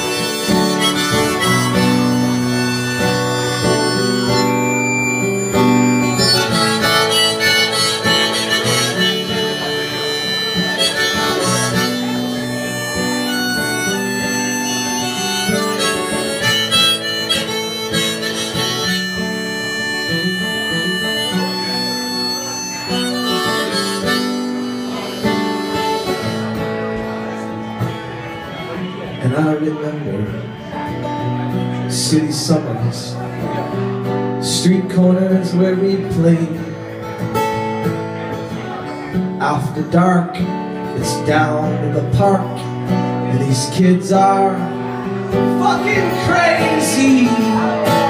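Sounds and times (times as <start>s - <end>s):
acoustic guitar strumming: 0.0s - 48.0s
harmonica chords: 0.0s - 48.0s.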